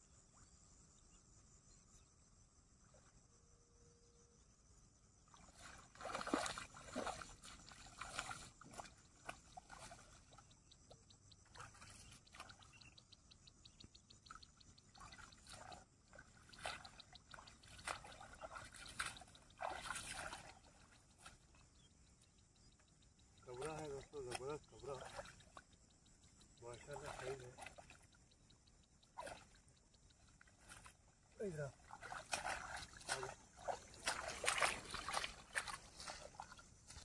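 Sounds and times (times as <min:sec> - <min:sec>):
water splashing and sloshing: 0:05.2 - 0:37.0.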